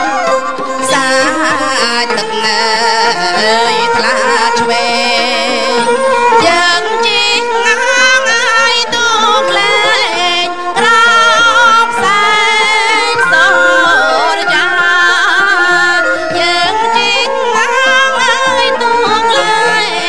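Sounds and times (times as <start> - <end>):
traditional ensemble playing: 0.0 - 20.0
woman singing into a microphone: 0.0 - 20.0.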